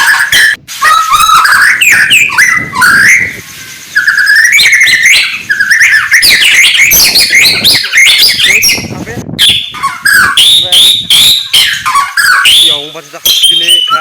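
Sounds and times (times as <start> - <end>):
bird singing whistled phrases: 0.0 - 14.0.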